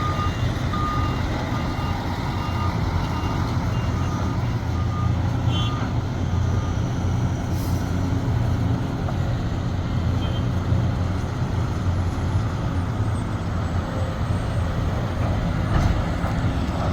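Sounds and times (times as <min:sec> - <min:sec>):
diesel excavator engine rumbling: 0:00.0 - 0:16.9.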